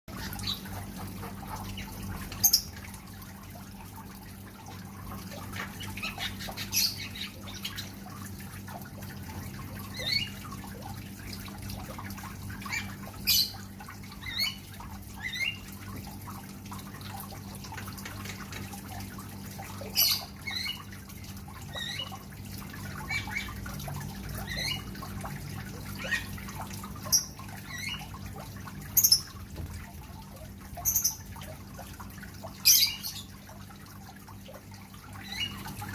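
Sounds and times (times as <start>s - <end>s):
songbirds chirping and squawking: 0.1s - 35.9s.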